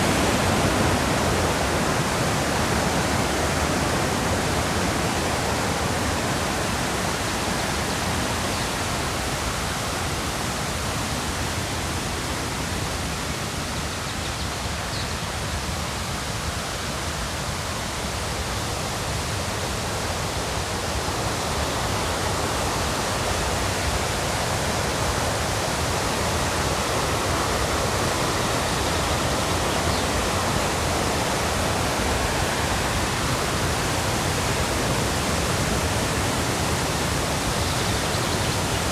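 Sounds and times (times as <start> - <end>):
river rapids rushing: 0.0 - 38.9.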